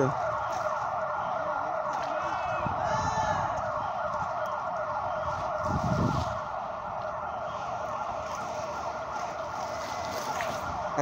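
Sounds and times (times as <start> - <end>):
warbling electronic alarm: 0.0 - 11.0.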